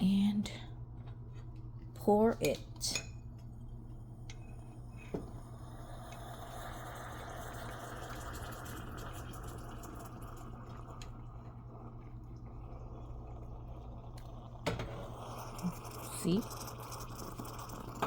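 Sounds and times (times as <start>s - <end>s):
coffee trickling into a cup: 3.4s - 18.0s.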